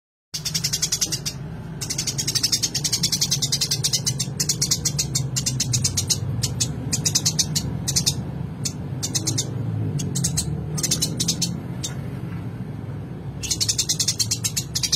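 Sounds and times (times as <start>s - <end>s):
sparrow chirping: 0.4s - 12.2s, 13.3s - 14.9s
steady low hum: 0.4s - 14.9s.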